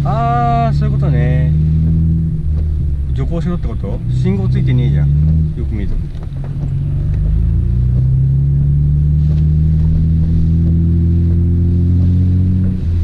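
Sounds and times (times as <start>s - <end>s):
car engine pulling away: 0.0s - 13.0s.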